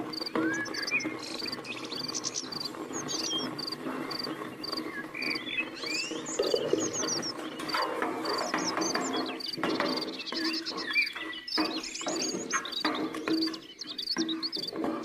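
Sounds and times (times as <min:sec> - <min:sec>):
bird chirps: 0:00.0 - 0:15.0.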